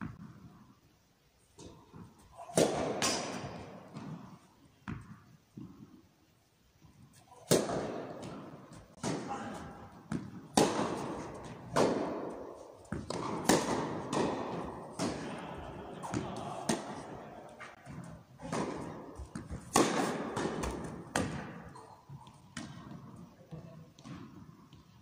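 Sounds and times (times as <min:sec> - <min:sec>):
rackets striking tennis ball: 0:01.6 - 0:05.9, 0:07.2 - 0:23.3, 0:24.0 - 0:24.8
tennis ball bouncing: 0:01.6 - 0:05.9, 0:07.4 - 0:23.3, 0:24.0 - 0:24.9.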